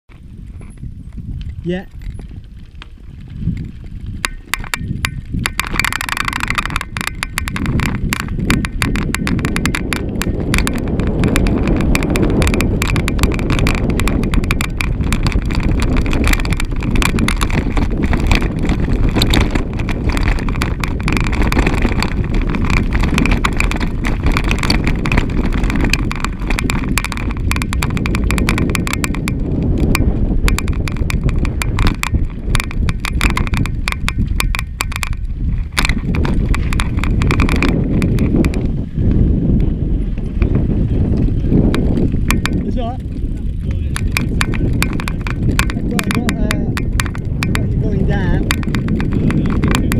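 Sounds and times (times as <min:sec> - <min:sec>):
wind rumble on microphone: 0:00.0 - 0:49.9
bike rattling: 0:00.1 - 0:49.9
tyres crunching on gravel: 0:00.1 - 0:49.9.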